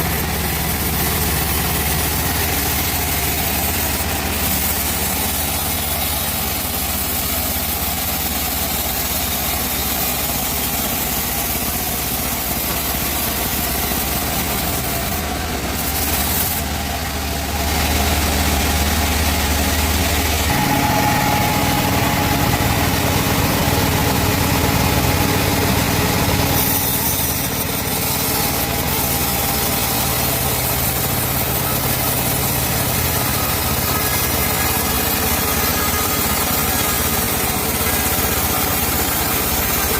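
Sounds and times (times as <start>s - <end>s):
band saw sawing wood: 0.0s - 39.9s.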